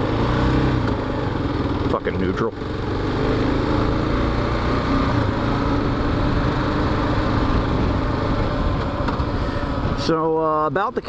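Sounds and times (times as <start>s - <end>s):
motorcycle engine running: 0.0s - 10.6s
road and traffic noise: 0.0s - 11.0s.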